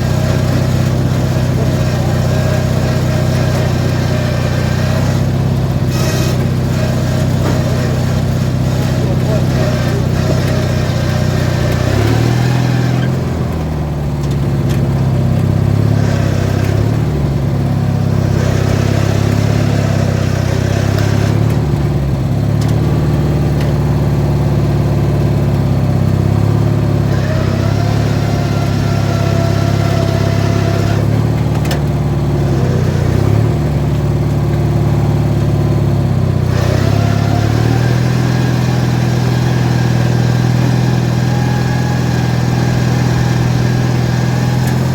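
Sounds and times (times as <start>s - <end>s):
engine revving up and down: 0.0s - 44.9s.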